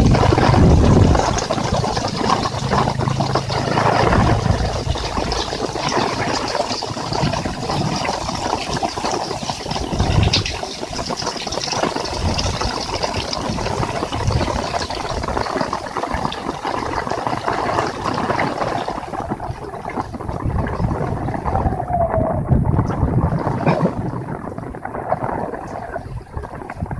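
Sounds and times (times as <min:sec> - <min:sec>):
heavy rain falling: 0:00.0 - 0:26.9
wind buffeting microphone: 0:00.0 - 0:26.9.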